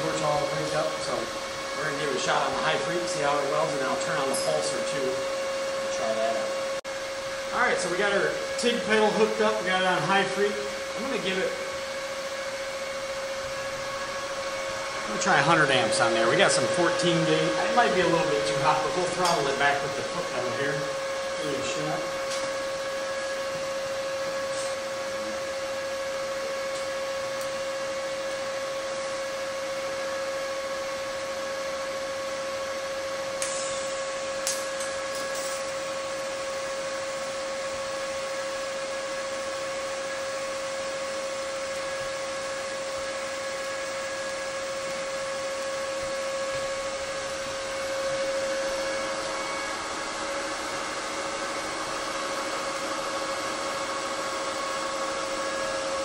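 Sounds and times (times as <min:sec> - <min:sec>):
welding arc hissing and humming: 0:00.0 - 0:56.0.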